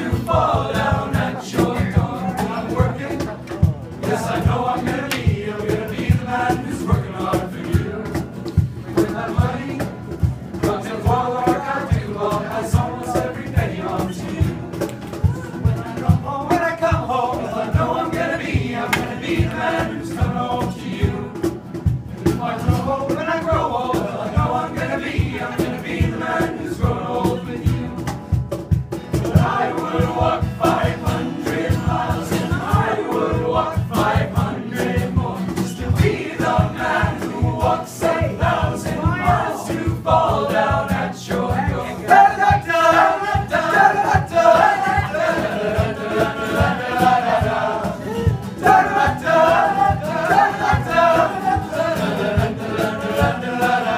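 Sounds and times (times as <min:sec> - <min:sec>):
boys singing in chorus: 0:00.0 - 0:03.3, 0:04.0 - 0:21.6, 0:22.3 - 0:28.1, 0:29.2 - 0:53.9
steady beat: 0:00.0 - 0:53.9.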